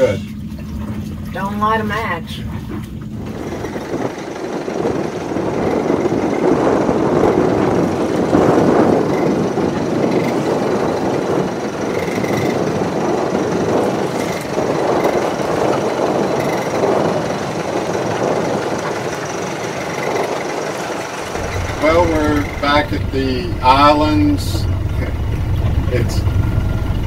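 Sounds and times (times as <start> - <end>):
strong wind on microphone: 2.9 - 27.0.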